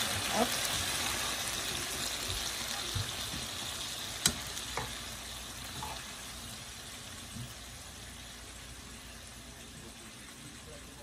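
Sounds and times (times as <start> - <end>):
vegetables sizzling in a frying pan: 0.0 - 11.0.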